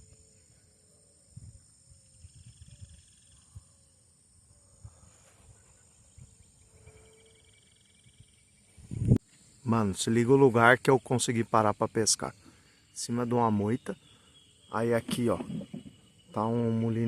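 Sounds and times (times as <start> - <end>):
insect high-pitched drone: 0.0 - 17.0
insect pulsing trill: 0.0 - 17.0.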